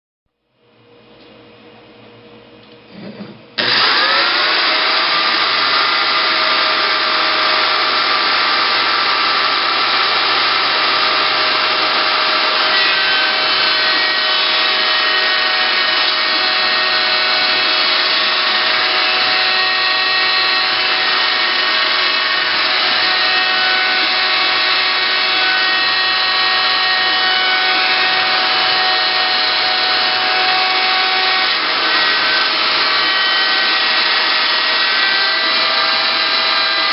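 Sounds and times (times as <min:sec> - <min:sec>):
router spindle motor whining: 0:03.6 - 0:36.9.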